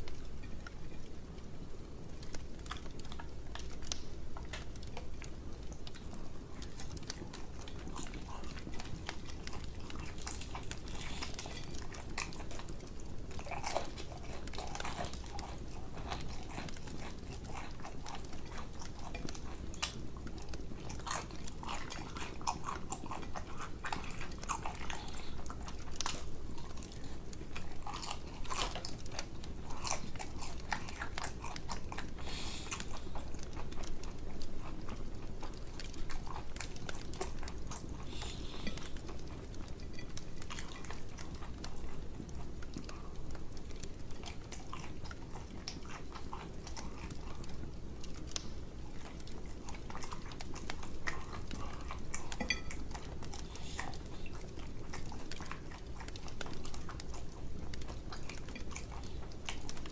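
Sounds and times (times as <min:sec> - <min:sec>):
chewing and crunching fried chicken: 0:00.0 - 0:59.9
crispy skin crackling: 0:00.0 - 0:59.9.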